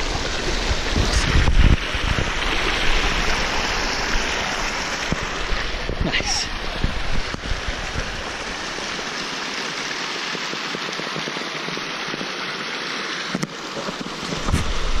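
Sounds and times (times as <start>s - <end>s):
creek rushing over rocks: 0.0s - 15.0s.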